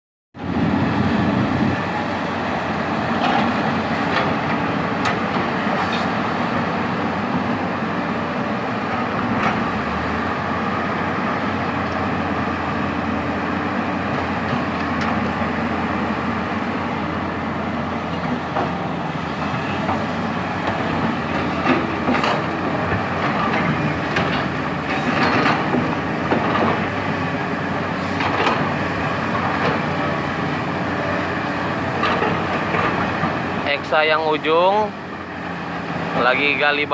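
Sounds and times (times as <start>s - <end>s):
excavator diesel engine running: 0.4s - 36.9s.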